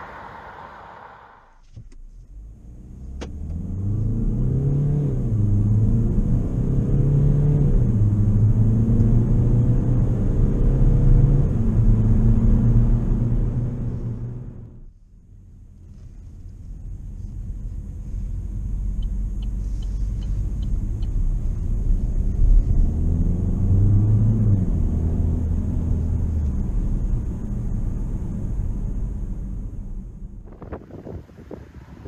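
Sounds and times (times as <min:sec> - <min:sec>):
car engine drone: 0:00.0 - 0:32.0
road rumble: 0:00.0 - 0:32.0.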